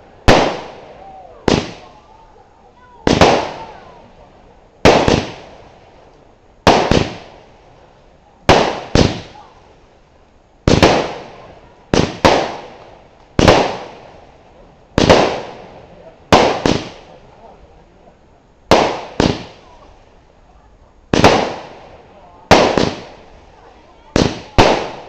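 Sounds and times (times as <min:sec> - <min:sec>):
firework crackling bursts: 0:00.0 - 0:17.4, 0:18.5 - 0:20.4, 0:21.0 - 0:25.0.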